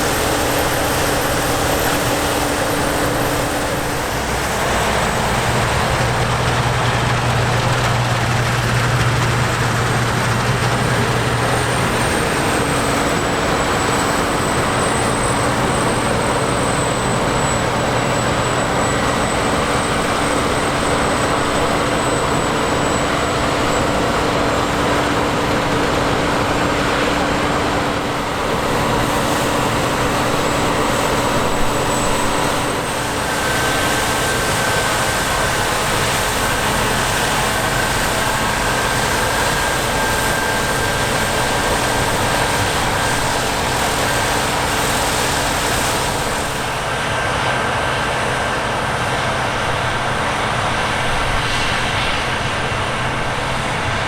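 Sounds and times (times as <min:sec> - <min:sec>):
harvest machinery drone: 0:00.0 - 0:54.0.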